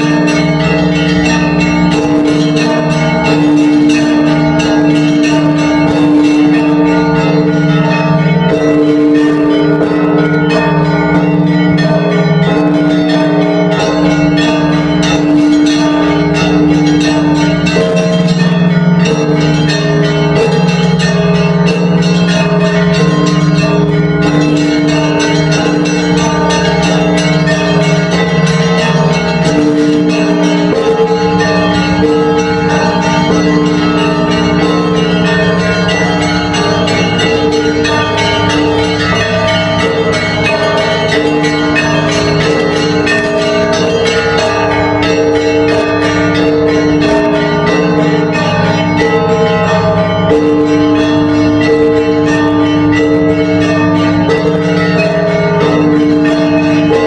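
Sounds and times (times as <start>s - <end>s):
large low bells ringing: 0.0s - 57.0s
small bells striking rapidly: 0.0s - 57.0s.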